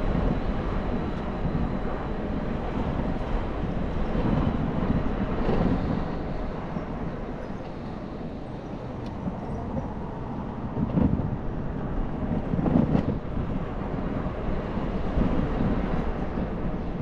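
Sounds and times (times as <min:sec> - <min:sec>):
scooter road rumble: 0:00.0 - 0:17.0
wind rushing over microphone: 0:00.0 - 0:17.0.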